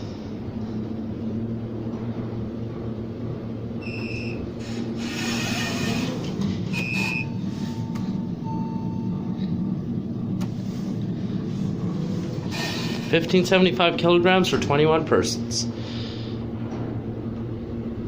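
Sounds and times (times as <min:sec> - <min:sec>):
elevator hum: 0:00.0 - 0:18.0.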